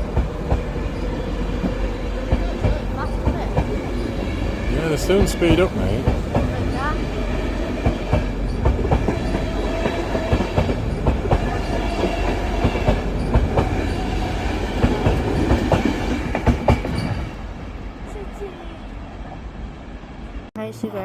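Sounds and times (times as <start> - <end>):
train wheels clacking on rails: 0.0 - 17.4
train machinery hum: 0.0 - 21.0.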